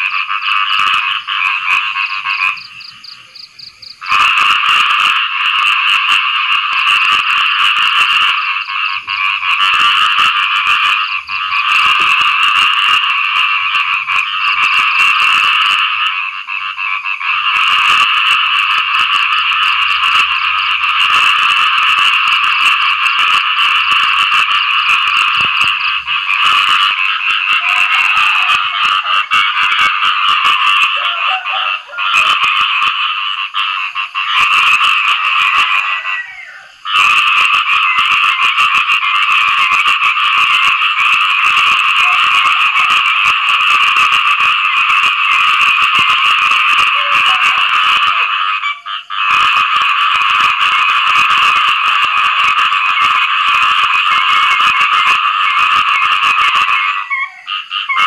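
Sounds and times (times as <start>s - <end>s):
frogs chorus pulsing: 0.0s - 58.0s.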